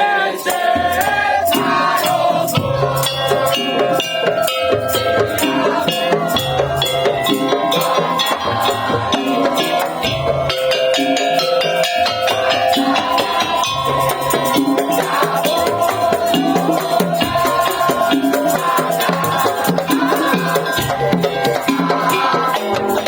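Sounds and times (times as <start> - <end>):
slit drums and drums rhythm: 0.0 - 23.0.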